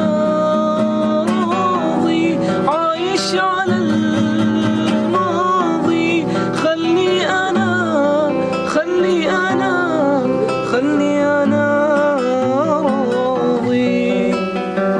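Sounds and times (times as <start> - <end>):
plucked string accompaniment: 0.0 - 14.9
pop song with sung melody: 0.0 - 14.9.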